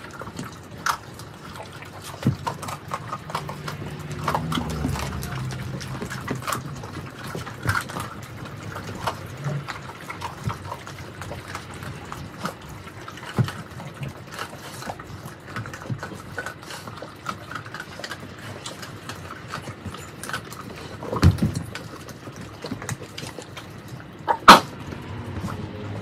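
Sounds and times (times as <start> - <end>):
dogs chewing bones: 0.0 - 26.0.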